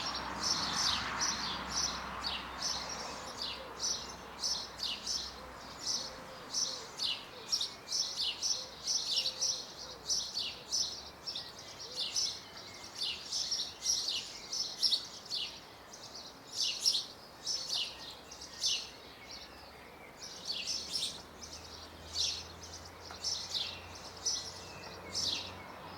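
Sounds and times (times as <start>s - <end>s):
small birds twittering: 0.0s - 25.9s.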